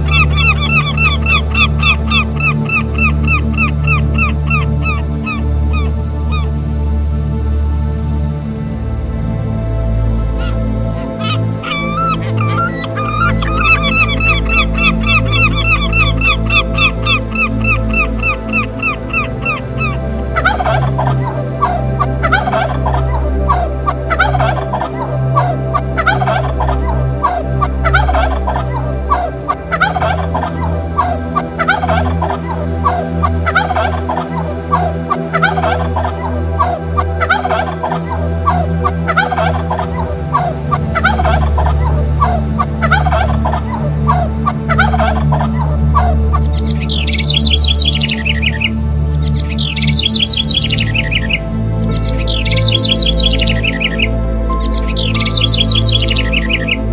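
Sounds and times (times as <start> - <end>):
bird calling: 0.0 - 6.5, 10.4 - 56.8.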